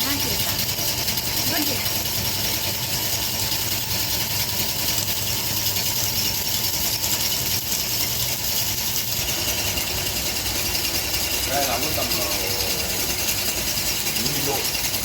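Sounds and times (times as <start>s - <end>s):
motor running with whine: 0.0s - 15.0s.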